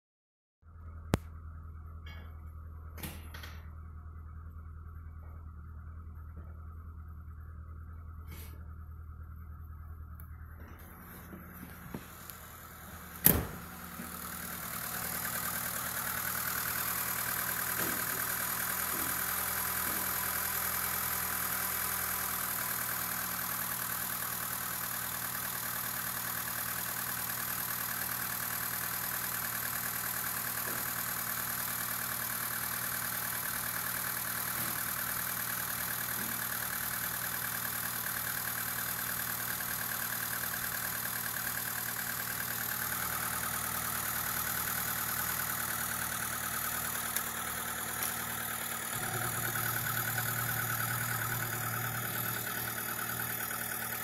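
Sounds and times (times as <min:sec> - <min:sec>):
car engine idling: 0:00.7 - 0:54.0.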